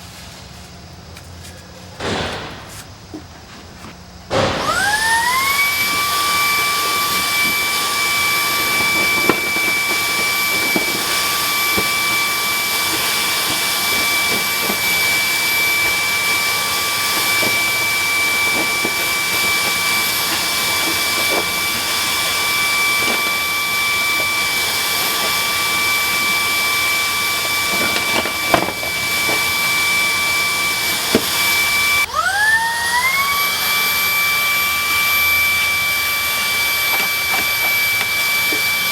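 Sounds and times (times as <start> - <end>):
vacuum cleaner motor whining: 0.0 - 38.9.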